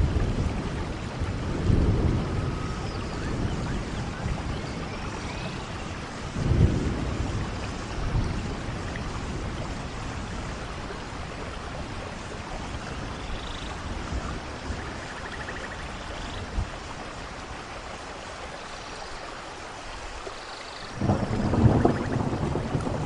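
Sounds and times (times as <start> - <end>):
low thunder rumble: 0.0 - 17.0, 21.0 - 23.0
steady rain falling: 0.0 - 23.0.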